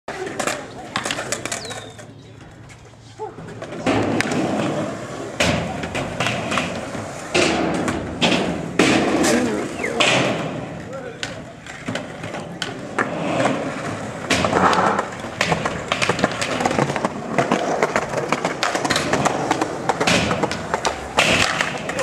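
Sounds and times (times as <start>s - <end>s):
skateboard clacks: 0.1s - 22.0s
skateboards rolling on concrete: 0.1s - 22.0s.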